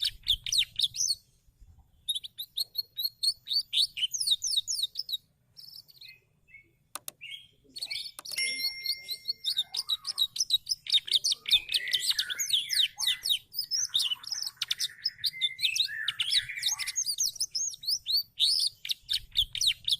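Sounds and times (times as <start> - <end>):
canary singing: 0.0 - 1.3, 2.0 - 19.9.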